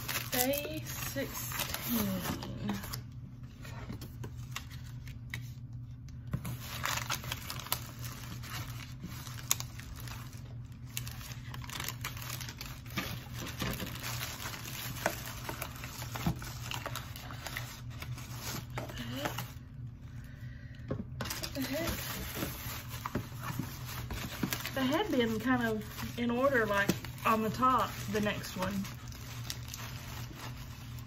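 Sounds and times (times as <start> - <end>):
packaging crinkling and rustling: 0.0 - 19.6, 21.2 - 31.0
steady low hum: 0.0 - 31.0.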